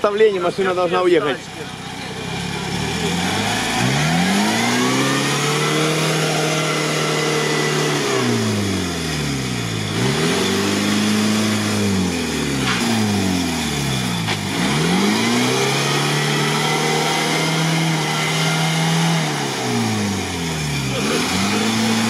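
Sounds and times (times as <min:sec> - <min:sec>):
truck engine revving hard: 0:00.6 - 0:22.0.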